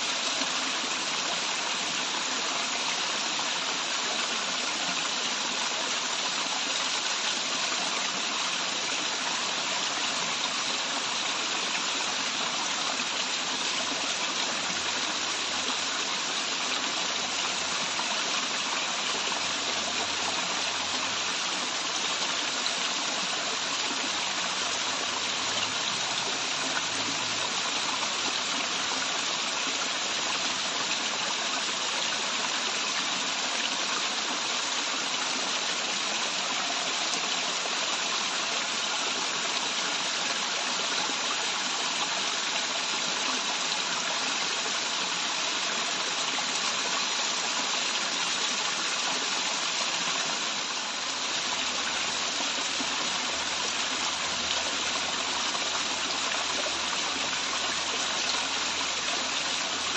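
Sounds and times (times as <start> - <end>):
water pouring down waterfall: 0.0 - 59.9.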